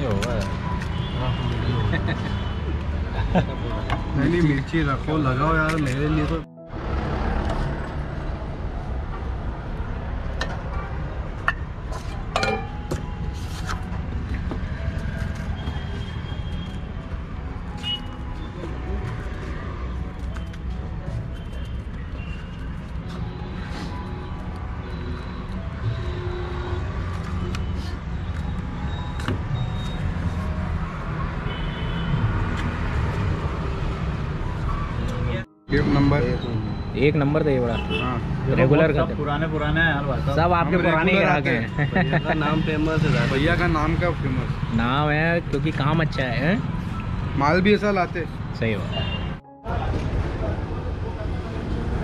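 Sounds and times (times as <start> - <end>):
traffic rumble: 0.0 - 52.0.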